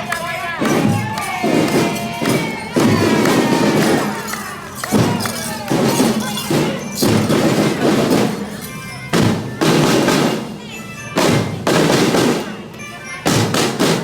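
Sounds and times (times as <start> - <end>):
parade drum beats: 0.0 - 14.0.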